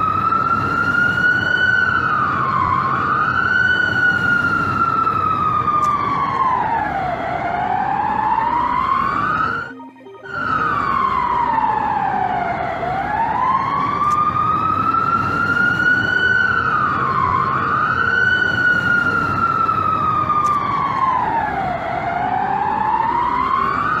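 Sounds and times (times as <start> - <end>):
alarm siren wailing: 0.0 - 24.0.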